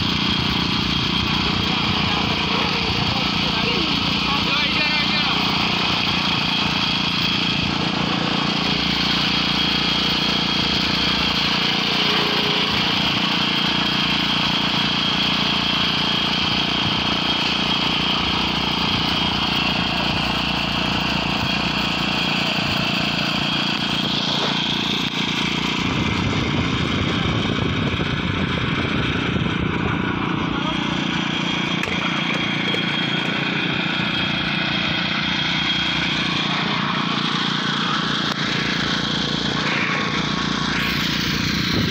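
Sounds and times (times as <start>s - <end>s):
plate compactor engine running: 0.0s - 41.9s.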